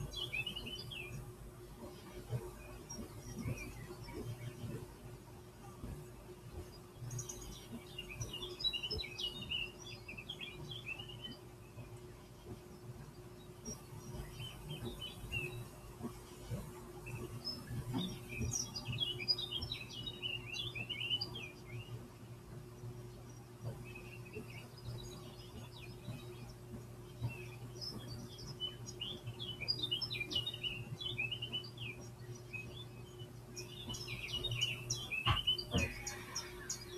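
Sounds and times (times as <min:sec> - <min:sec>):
recorded birdsong through speakers: 0:00.0 - 0:36.9
steady low hum: 0:00.0 - 0:36.9.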